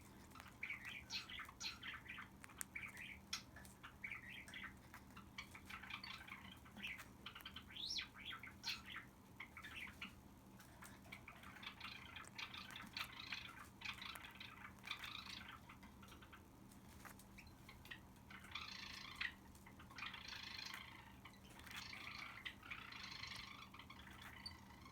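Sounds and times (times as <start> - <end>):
cockatiel chattering softly: 0.0 - 24.9.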